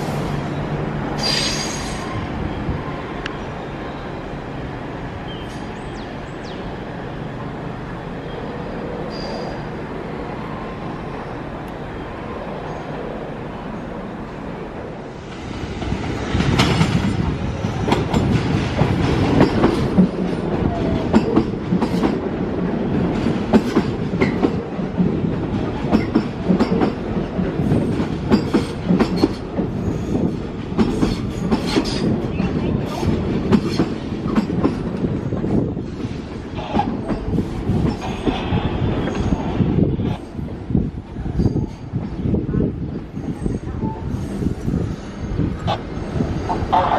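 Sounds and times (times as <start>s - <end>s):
subway train rumbling: 0.0s - 46.9s.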